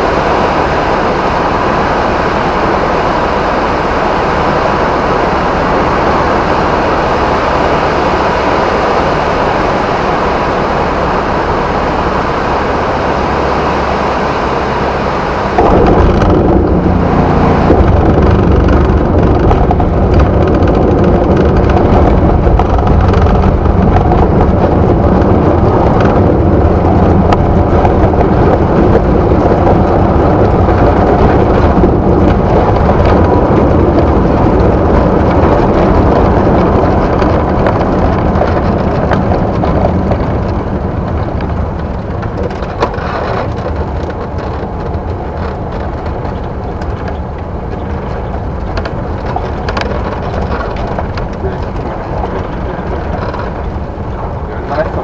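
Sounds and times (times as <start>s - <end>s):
aircraft engine and propeller droning: 0.0s - 55.0s
rushing air: 0.0s - 55.0s.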